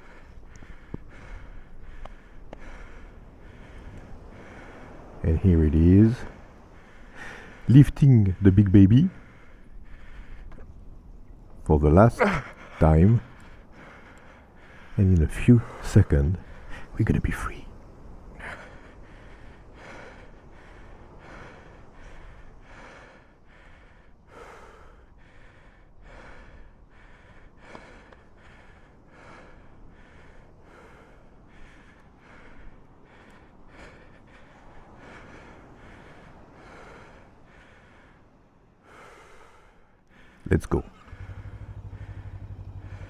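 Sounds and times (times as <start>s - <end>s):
man panting heavily: 0.0s - 17.0s, 17.6s - 43.0s.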